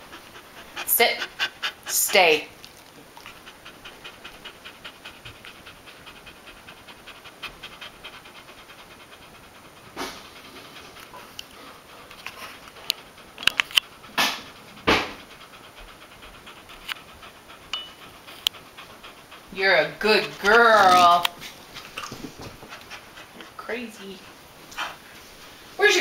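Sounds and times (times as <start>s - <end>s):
dog panting: 0.0s - 26.0s.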